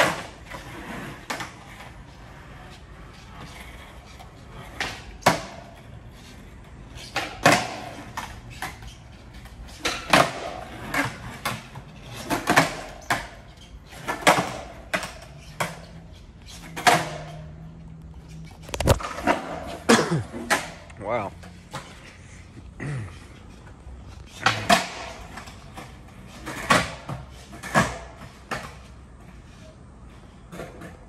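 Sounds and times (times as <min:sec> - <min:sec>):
skateboard clacks on concrete: 0:00.0 - 0:17.6, 0:18.2 - 0:22.1, 0:23.2 - 0:31.0.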